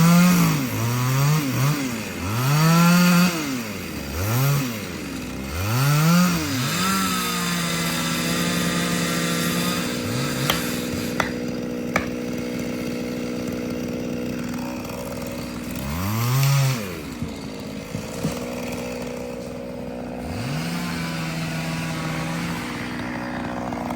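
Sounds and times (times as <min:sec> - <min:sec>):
chainsaw revving: 0:00.0 - 0:23.9.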